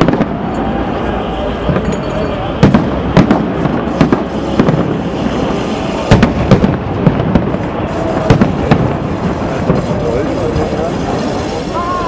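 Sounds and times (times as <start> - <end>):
continuous rumble of fireworks: 0.0 - 12.0
fireworks bursting with sharp bangs: 0.0 - 12.0.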